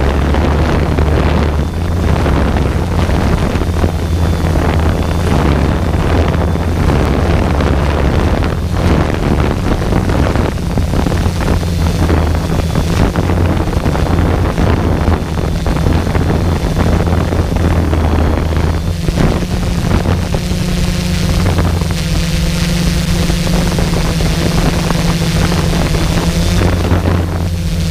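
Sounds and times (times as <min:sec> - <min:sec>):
drone propellers humming: 0:00.0 - 0:27.9
wind buffeting microphone: 0:00.0 - 0:27.9.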